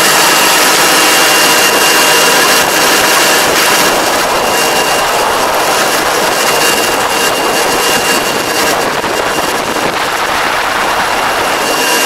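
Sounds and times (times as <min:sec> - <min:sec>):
thin high whine: 0:00.0 - 0:12.0
tractor engine running: 0:00.0 - 0:12.0.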